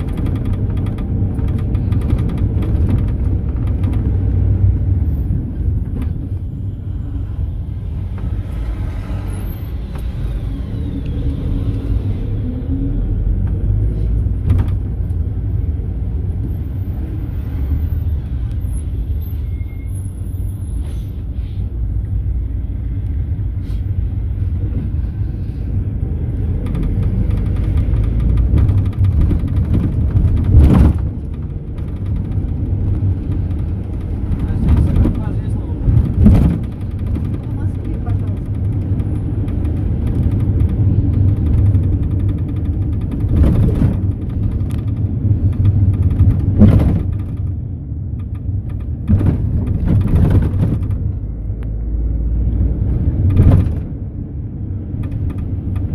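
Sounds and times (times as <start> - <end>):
engine and road rumble: 0.0 - 55.9.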